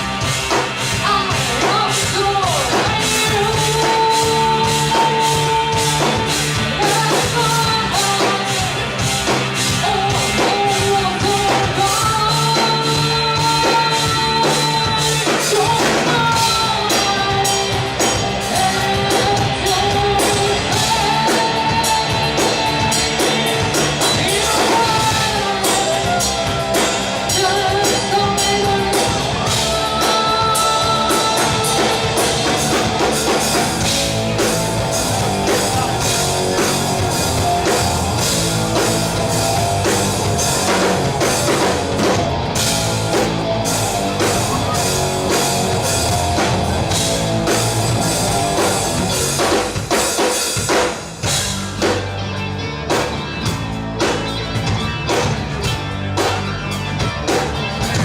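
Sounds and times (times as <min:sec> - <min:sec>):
drum kit: 0:00.0 - 0:58.0
electric guitar: 0:00.0 - 0:58.0
rock band playing live: 0:00.0 - 0:58.0.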